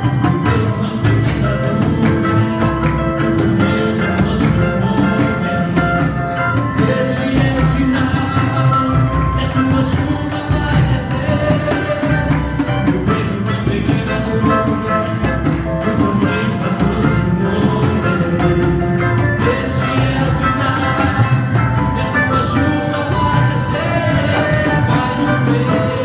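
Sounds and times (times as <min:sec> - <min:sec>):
fast steady percussion: 0:00.0 - 0:26.0
guitar: 0:00.0 - 0:26.0
live band music: 0:00.0 - 0:26.0.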